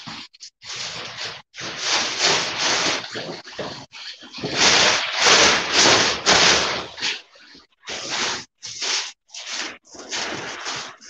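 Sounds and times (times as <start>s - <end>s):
rustling on microphone: 0.0s - 11.0s.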